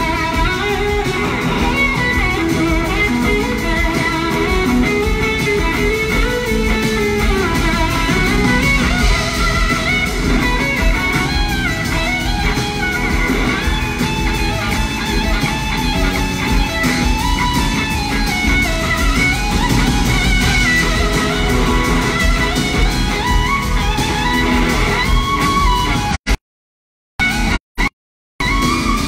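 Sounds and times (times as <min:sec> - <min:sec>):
electric slide guitar solo: 0:00.0 - 0:26.1, 0:28.4 - 0:29.0
full band playing: 0:00.0 - 0:26.2, 0:27.2 - 0:29.0.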